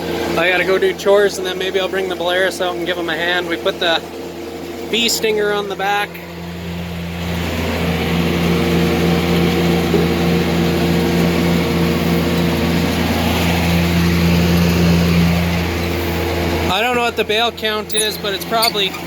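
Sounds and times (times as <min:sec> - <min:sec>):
tractor diesel engine drone: 0:00.0 - 0:19.0.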